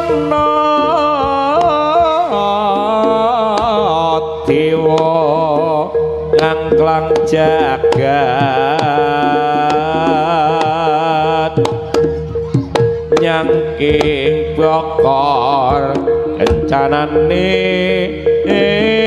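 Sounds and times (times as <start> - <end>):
hand drum strokes: 0.0 - 5.2, 6.4 - 19.0
steady ringing tone: 0.0 - 19.0
wavering ornamented melody: 0.0 - 19.0.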